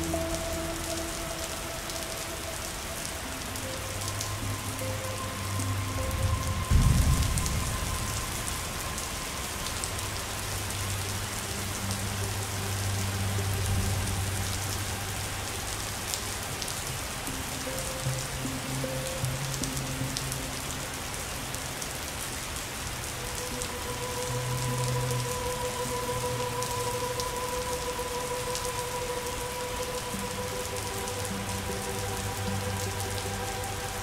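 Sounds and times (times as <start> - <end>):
soft background music: 0.0 - 34.0
steady rain falling: 0.0 - 34.0.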